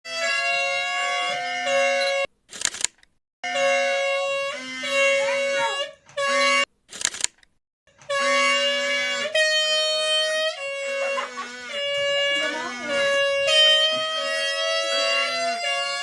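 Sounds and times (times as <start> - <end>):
reedy horn-like held notes: 0.1 - 2.3, 3.4 - 6.7, 7.9 - 16.0.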